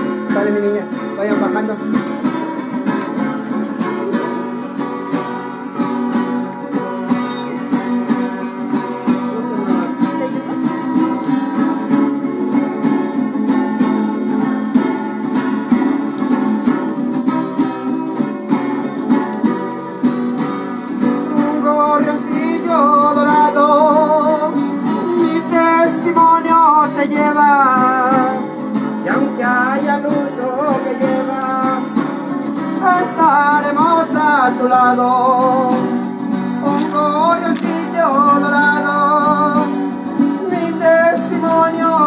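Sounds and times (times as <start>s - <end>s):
plucked melody: 0.0s - 42.0s
strummed guitars: 0.0s - 42.0s.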